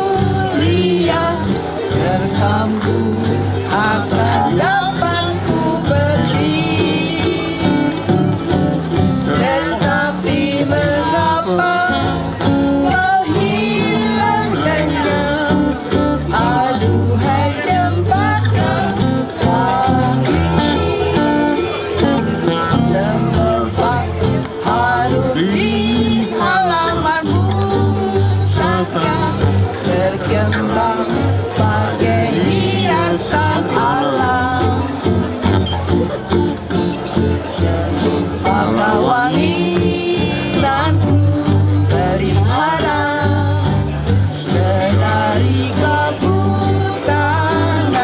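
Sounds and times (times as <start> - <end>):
acoustic guitar: 0.0 - 48.0
ukulele ensemble strumming: 0.0 - 48.0
voices singing: 0.0 - 48.0.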